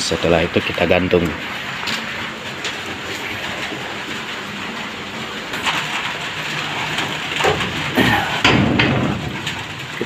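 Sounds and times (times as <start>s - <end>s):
rain on metal roof: 0.0s - 10.0s.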